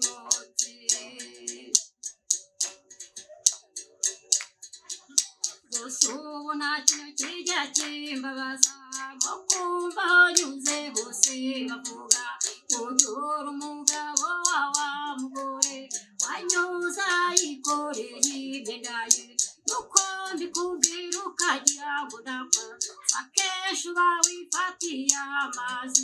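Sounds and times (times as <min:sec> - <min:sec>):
person singing: 0:00.0 - 0:01.8, 0:05.7 - 0:26.0
musical bow string clicks: 0:00.0 - 0:26.0.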